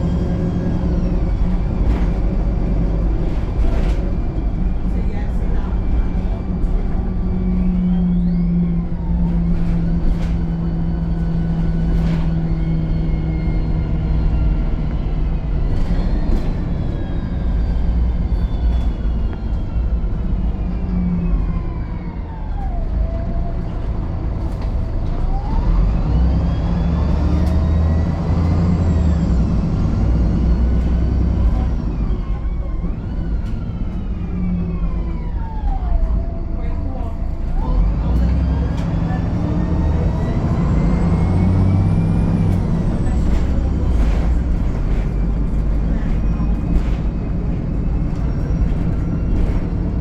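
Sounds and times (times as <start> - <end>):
bus body clicks and rattles: 0.0 - 20.6, 22.8 - 25.5, 26.9 - 36.1, 37.0 - 50.0
bus engine hum and whine: 0.0 - 50.0.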